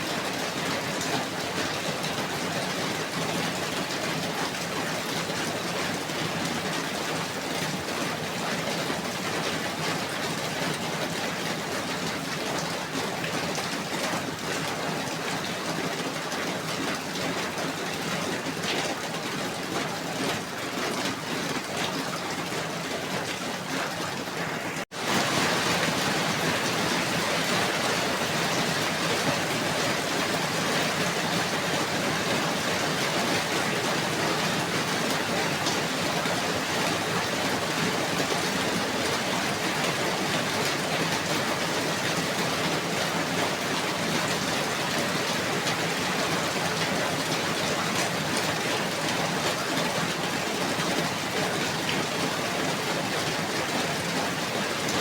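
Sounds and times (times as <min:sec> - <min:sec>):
steady falling rain: 0:00.0 - 0:55.0.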